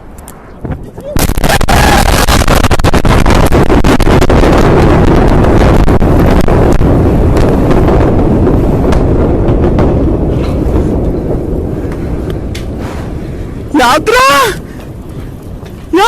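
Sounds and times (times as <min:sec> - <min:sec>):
explosion rumble with crackling: 0:00.0 - 0:16.0.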